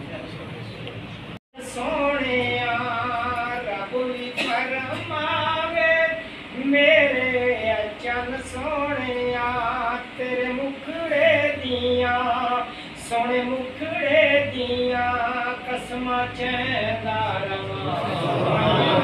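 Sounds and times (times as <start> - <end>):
man chanting: 1.6 - 19.0.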